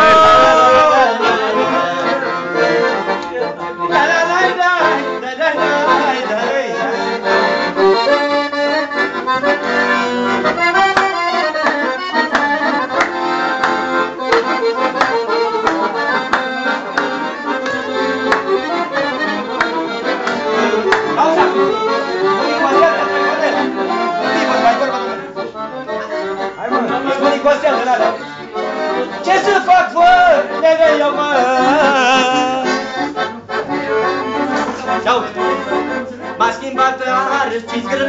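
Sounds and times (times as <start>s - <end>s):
accordion playing: 0.0s - 38.0s.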